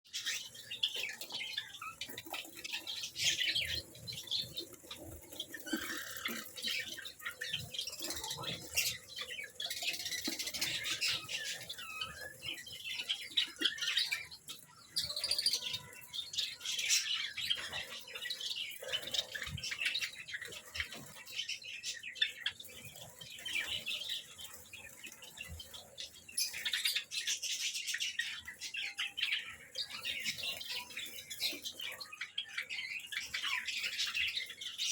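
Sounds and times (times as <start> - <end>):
cage birds chirping: 0.0 - 34.9.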